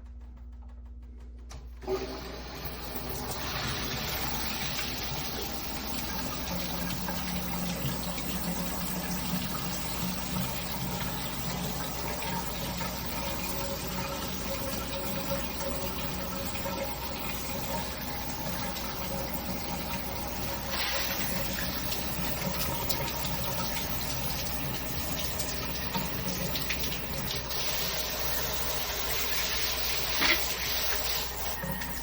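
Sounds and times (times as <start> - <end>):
shower water spraying: 1.8 - 32.0.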